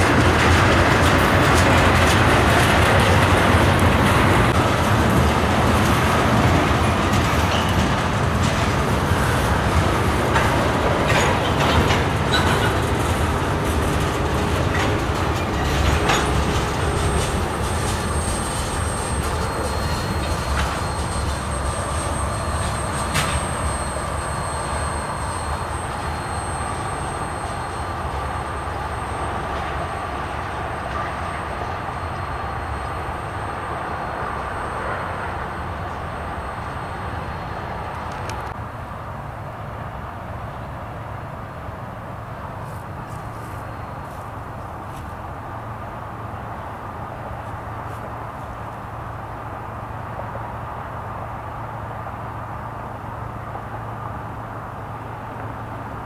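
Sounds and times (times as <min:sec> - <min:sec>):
freight train cars rolling: 0:00.0 - 0:56.0.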